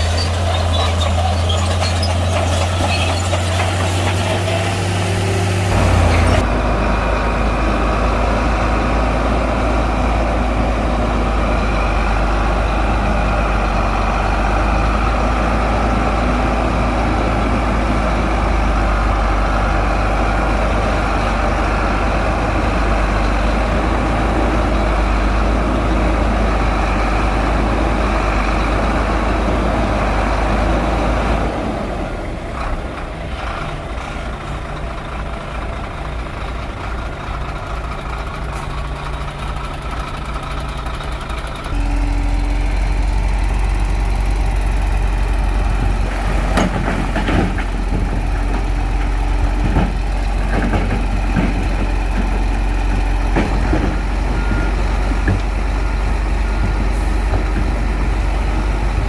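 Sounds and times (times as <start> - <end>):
bulldozer diesel engine humming: 0.0 - 59.0.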